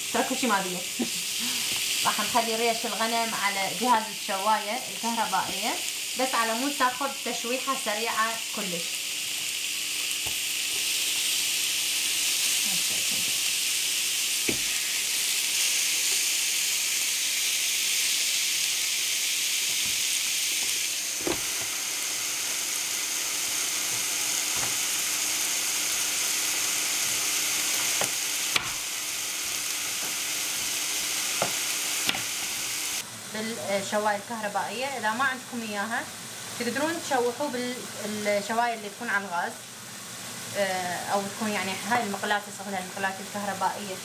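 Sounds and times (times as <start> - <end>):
ribs sizzling on a grill: 0.0 - 44.0.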